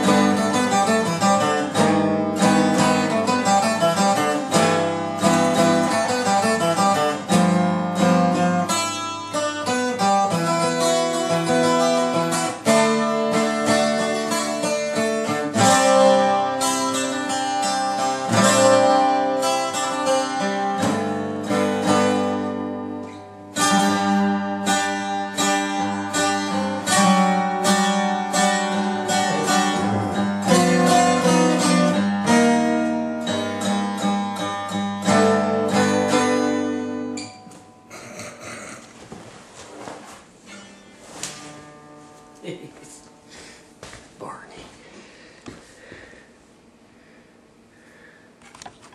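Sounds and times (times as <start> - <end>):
acoustic guitar: 0.0 - 48.9.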